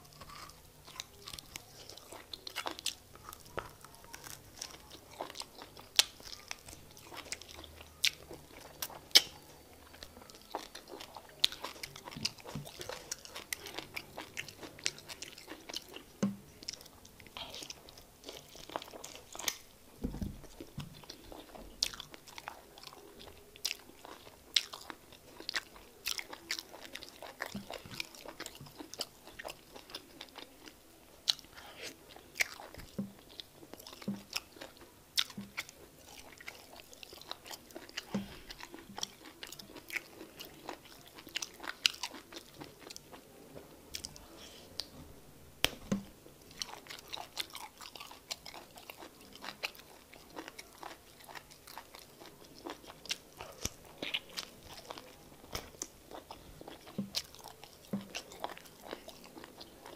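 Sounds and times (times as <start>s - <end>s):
person chewing with wet smacks: 0.0s - 45.0s, 45.6s - 59.9s.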